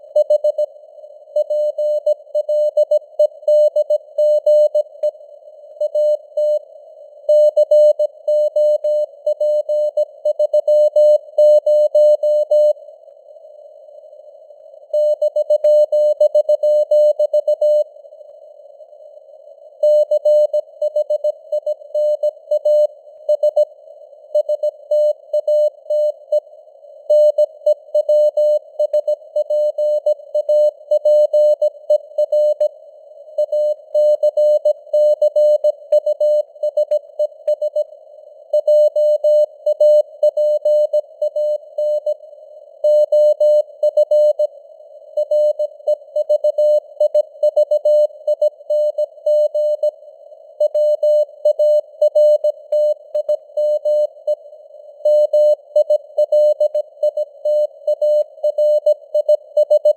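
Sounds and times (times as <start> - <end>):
faint radio static hiss: 0.0 - 59.9.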